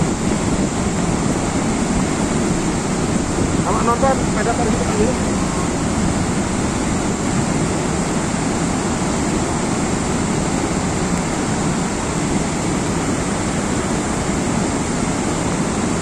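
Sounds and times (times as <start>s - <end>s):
mudflow rushing: 0.0s - 16.0s.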